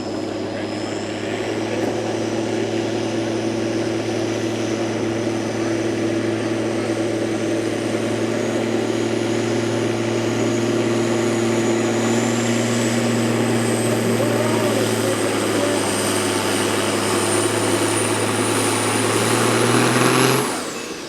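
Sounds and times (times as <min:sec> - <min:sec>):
engine at full throttle: 0:00.0 - 0:21.0.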